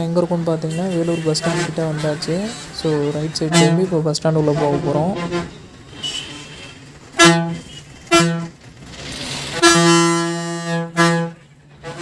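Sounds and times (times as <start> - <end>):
bus horn honking: 0.6 - 12.0.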